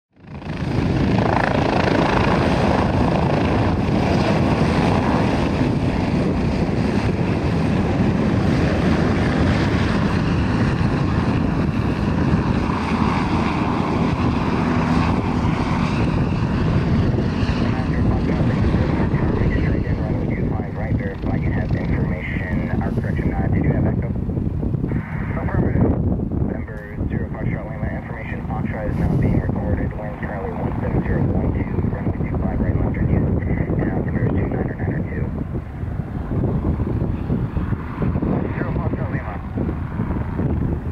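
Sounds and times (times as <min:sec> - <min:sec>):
helicopter rotor and turbine drone: 0:00.1 - 0:40.9.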